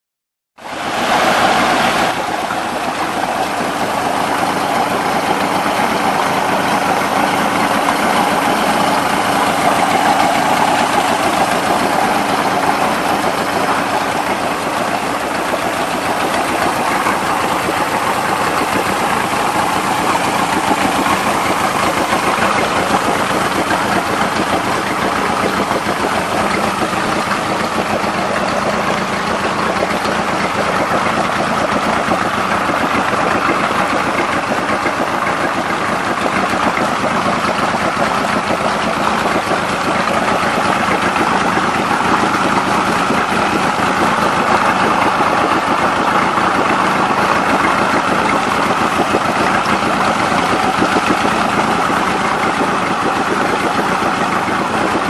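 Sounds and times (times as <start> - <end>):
outboard motor running: 0.6 - 55.0
water churning in barrel: 0.6 - 55.0.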